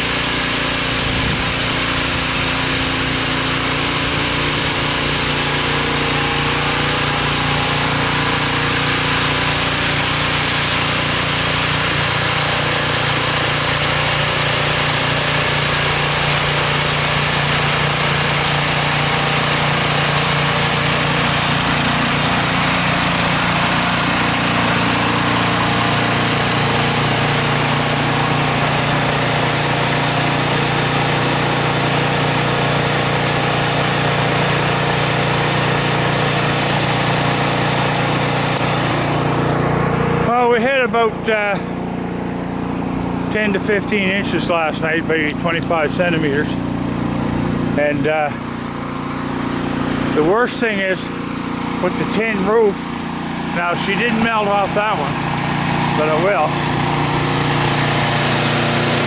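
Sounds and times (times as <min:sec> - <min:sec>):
snow blower engine running: 0:00.0 - 0:59.0.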